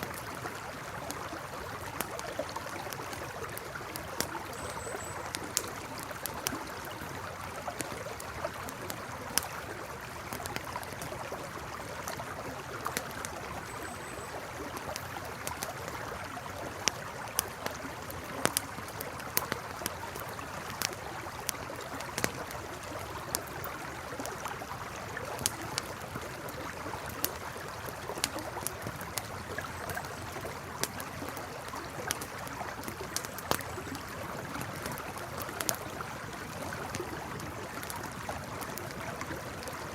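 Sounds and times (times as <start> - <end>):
campfire crackling and popping: 0.0 - 39.9
flowing river: 0.0 - 39.9.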